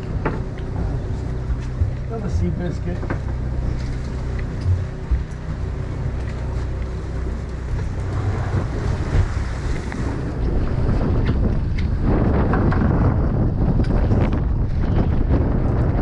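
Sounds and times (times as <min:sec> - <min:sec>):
boat engine hum: 0:00.0 - 0:16.0
waves against boat hull: 0:00.0 - 0:16.0
wind buffeting microphone: 0:00.0 - 0:16.0.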